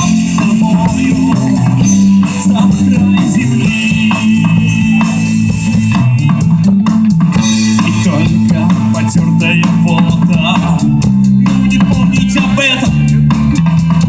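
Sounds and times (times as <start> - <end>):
rock band playing instrumental: 0.0 - 14.0.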